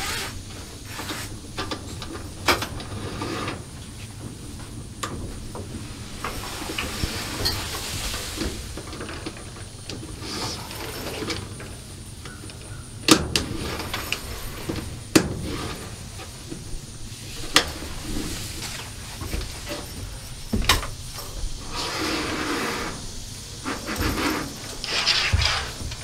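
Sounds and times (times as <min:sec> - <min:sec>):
curtain rustling and sliding on rail: 0:00.0 - 0:11.9, 0:13.3 - 0:26.0.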